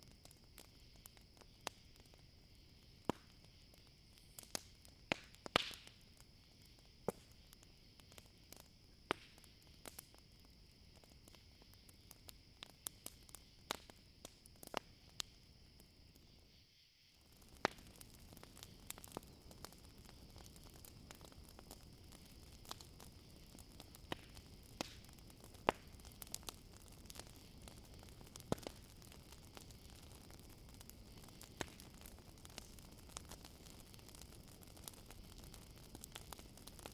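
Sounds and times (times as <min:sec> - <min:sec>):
campfire crackling and popping: 0:00.0 - 0:16.6, 0:17.2 - 0:36.9
crickets chirring: 0:00.0 - 0:36.9.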